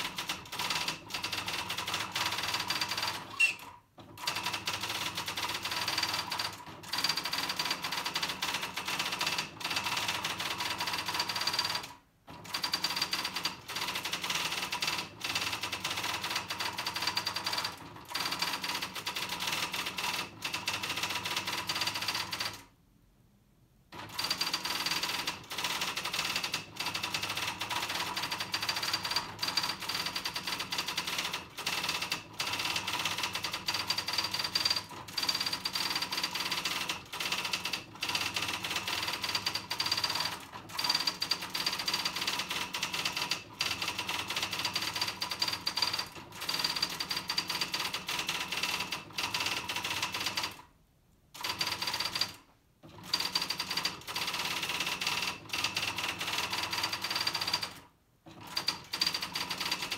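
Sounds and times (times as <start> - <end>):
electric typewriter typing: 0.0 - 22.7, 24.0 - 50.7, 51.4 - 59.9.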